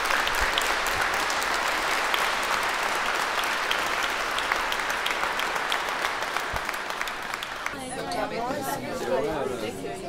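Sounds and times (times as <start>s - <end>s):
congregation clapping: 0.0s - 8.2s.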